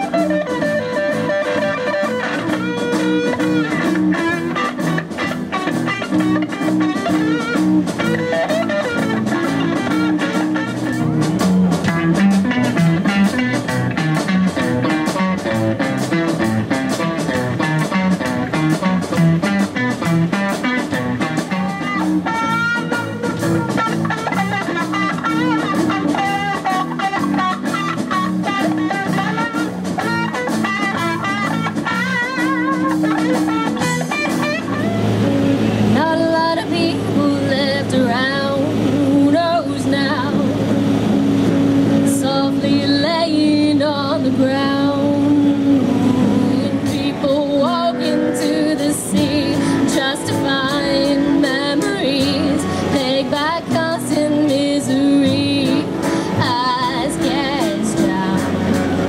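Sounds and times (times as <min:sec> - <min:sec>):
drum kit: 0:00.0 - 0:59.0
electric guitar solo: 0:00.0 - 0:59.0.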